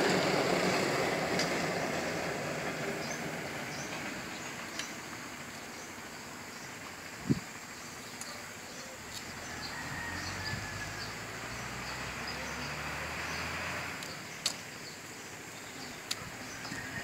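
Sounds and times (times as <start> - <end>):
small birds chirping: 1.4 - 17.0.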